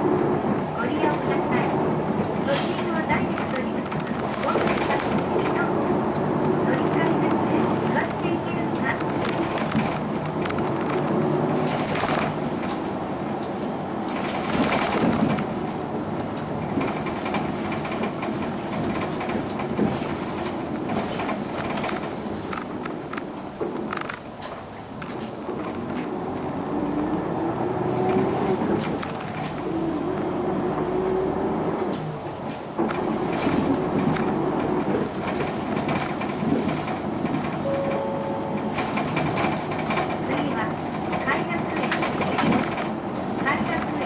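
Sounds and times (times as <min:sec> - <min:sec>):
bus diesel engine hum: 0:00.0 - 0:44.0
road noise: 0:00.0 - 0:44.0.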